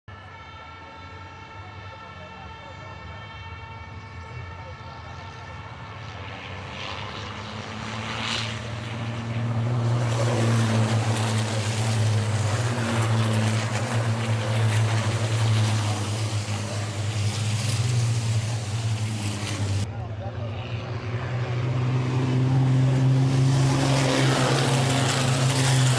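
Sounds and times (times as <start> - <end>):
truck engines droning: 0.1 - 25.9.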